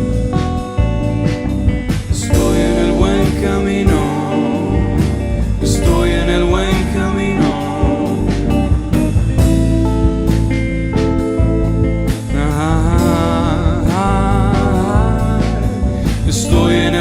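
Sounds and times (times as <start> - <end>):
lead guitar bending in pitch: 0.0 - 17.0
rock band playing: 0.0 - 17.0.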